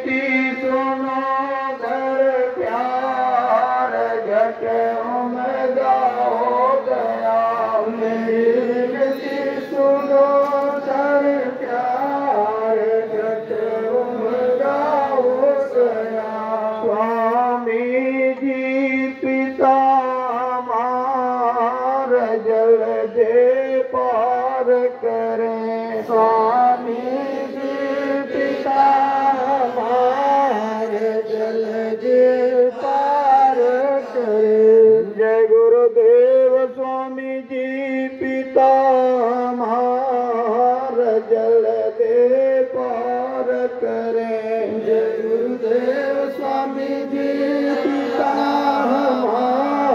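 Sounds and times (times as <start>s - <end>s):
person chanting a prayer: 0.0s - 49.9s.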